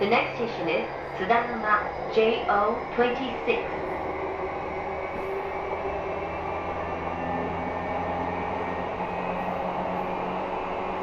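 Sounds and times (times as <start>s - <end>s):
traction motor hum: 0.0s - 11.0s
train wheels rumbling on rails: 0.0s - 11.0s.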